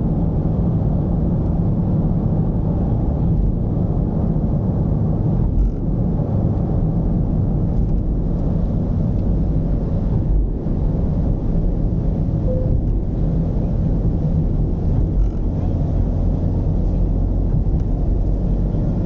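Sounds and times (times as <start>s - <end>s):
diesel engine rumble: 0.0s - 19.0s
road noise: 0.0s - 19.0s.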